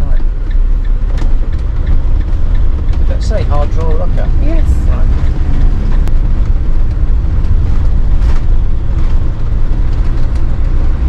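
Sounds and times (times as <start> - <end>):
engine low rumble: 0.0 - 11.0
road noise: 0.0 - 11.0.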